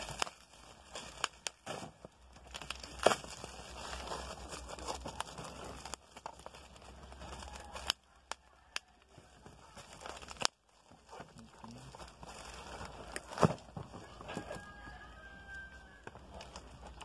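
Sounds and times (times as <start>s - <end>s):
bubble wrap crinkling and tearing: 0.0s - 17.0s.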